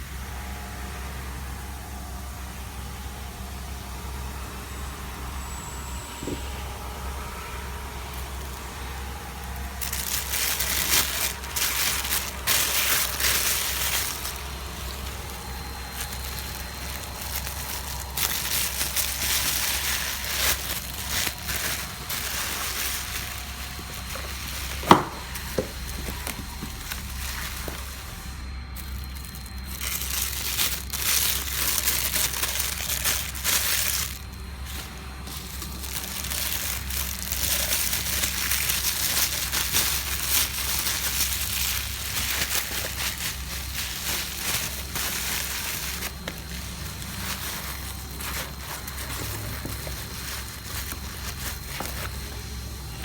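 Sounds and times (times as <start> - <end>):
steady low hum: 0.0 - 53.0
packaging crinkling and rustling: 7.9 - 53.0.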